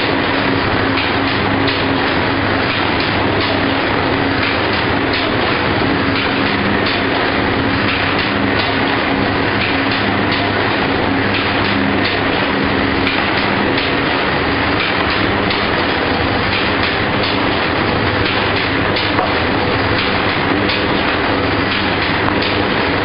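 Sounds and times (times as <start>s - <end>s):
low motor hum: 0.0s - 23.0s
mechanical clatter: 0.0s - 23.0s.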